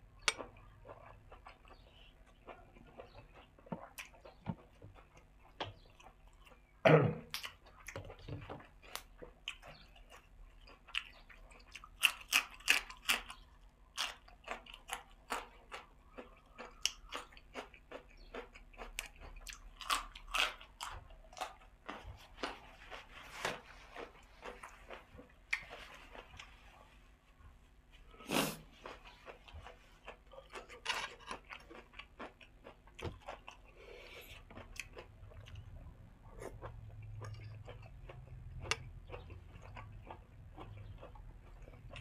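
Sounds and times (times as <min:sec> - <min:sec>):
crunchy chewing: 0:00.1 - 0:42.0.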